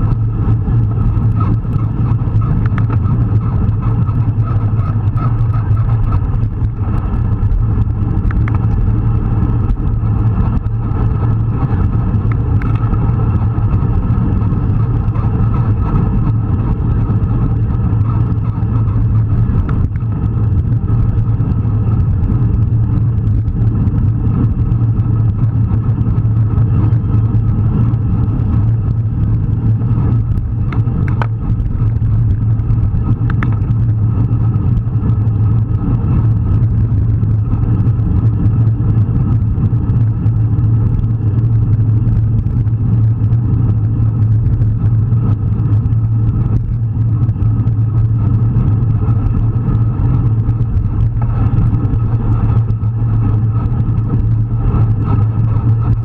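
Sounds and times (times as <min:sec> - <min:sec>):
low wind rumble: 0:00.0 - 0:56.0
road noise: 0:00.0 - 0:56.0.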